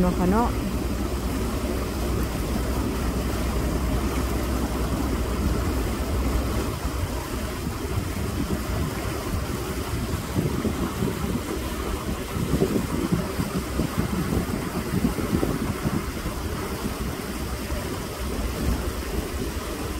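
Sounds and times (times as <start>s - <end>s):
boat engine rumble: 0.0s - 19.9s
water noise: 0.0s - 19.9s
wind noise: 0.0s - 19.9s.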